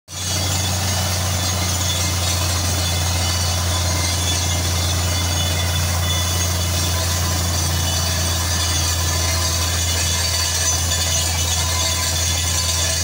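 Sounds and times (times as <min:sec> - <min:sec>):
drilling rig engine droning: 0:00.1 - 0:13.0.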